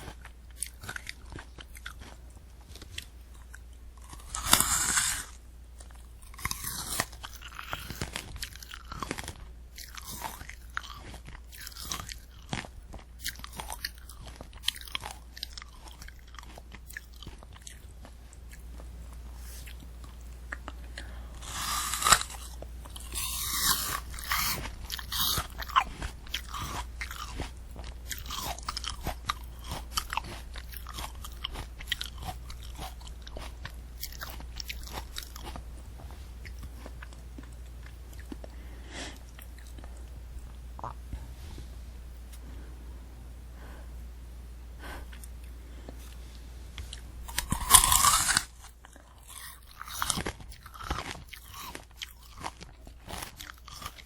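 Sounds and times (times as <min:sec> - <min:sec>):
candy apple crunching: 0:00.0 - 0:41.3, 0:44.8 - 0:54.0.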